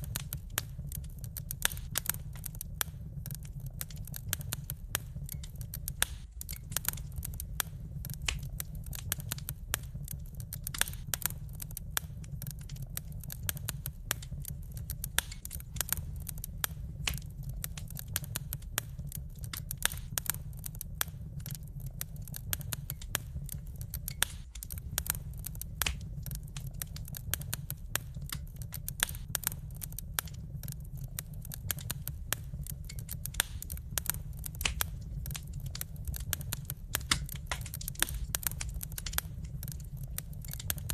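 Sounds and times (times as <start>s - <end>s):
low fire rumble: 0.0s - 40.9s
wood fire crackling: 0.0s - 40.9s.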